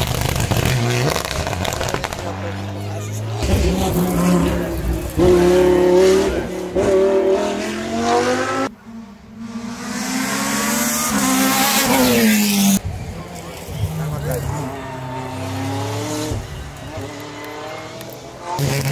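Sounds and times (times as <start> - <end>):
race car engine at full throttle: 0.0 - 18.9.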